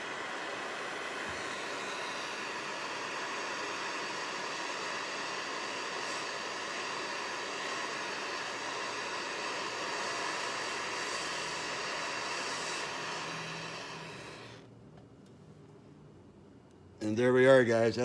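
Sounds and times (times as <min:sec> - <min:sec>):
gas torch hissing: 0:00.0 - 0:14.7.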